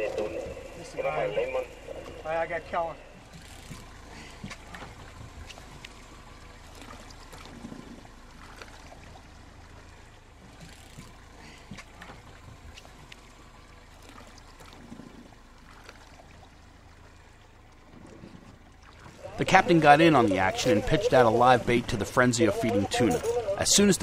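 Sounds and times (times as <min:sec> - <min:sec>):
low steady hum: 0:00.0 - 0:24.0
water trickling and sloshing: 0:00.0 - 0:24.0.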